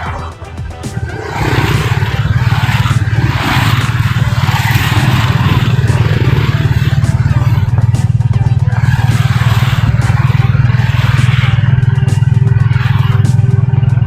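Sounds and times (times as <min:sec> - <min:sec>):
road and wind noise: 0:00.0 - 0:14.0
small vehicle engine throbbing: 0:00.0 - 0:14.0.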